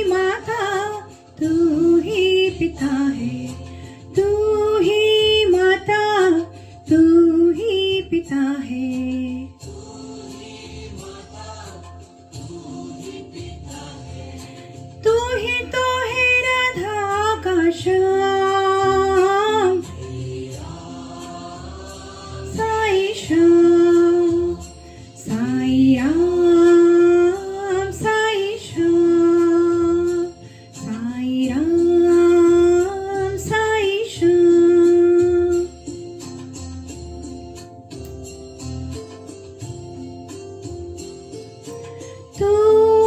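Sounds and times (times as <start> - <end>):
devotional instrumental music: 0.0 - 43.0.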